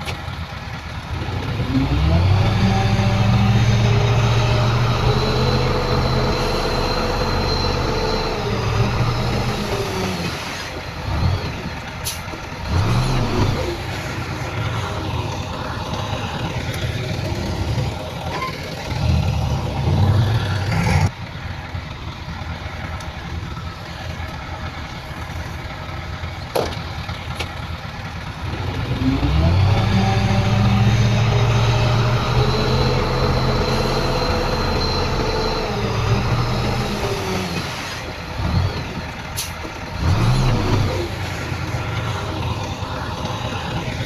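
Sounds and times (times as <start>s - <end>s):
heavy diesel machinery engine revving: 0.0s - 44.0s.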